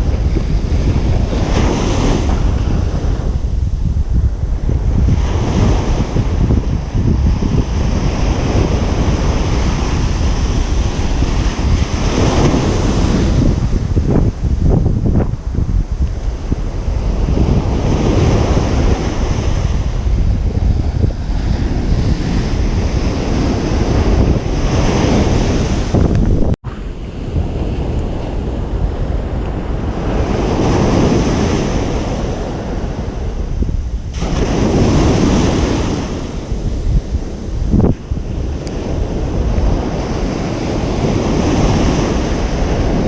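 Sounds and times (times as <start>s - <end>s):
waves breaking on a beach: 0.0s - 26.0s, 26.7s - 43.0s
wind rumble on microphone: 0.0s - 43.0s.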